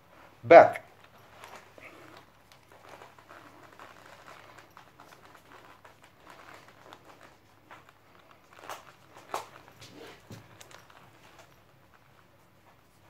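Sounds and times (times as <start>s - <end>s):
fabric and leather rustling: 0.0s - 13.0s.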